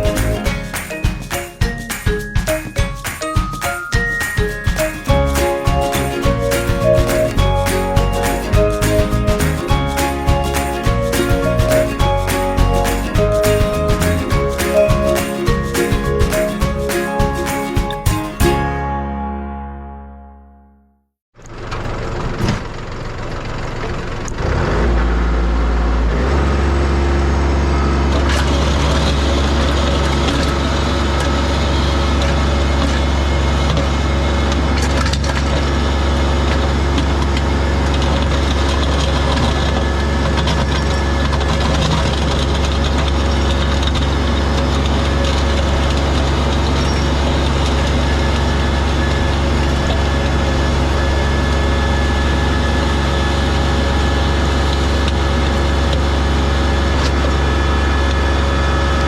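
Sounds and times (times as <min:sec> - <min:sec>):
tractor diesel engine running: 0:04.1 - 0:19.0, 0:21.4 - 0:59.0.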